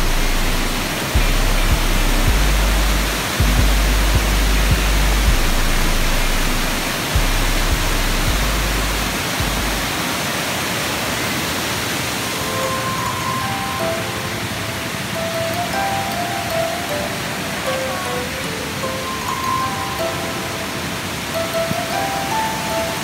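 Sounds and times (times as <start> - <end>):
background music with held notes: 0.0 - 10.1, 12.3 - 23.0
waterfall rushing: 0.0 - 23.0.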